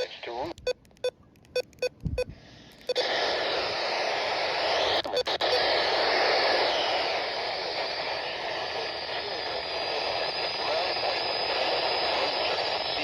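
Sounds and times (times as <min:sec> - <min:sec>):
radio static hiss: 0:00.0 - 0:00.6, 0:02.8 - 0:13.0
weather radio beeping: 0:00.0 - 0:00.8, 0:01.6 - 0:03.4, 0:04.5 - 0:13.0.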